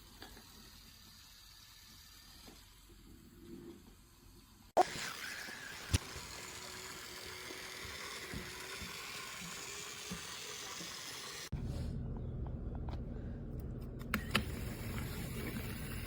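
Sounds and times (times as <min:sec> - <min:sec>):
toy train whirring: 0:00.0 - 0:11.5, 0:14.2 - 0:16.0.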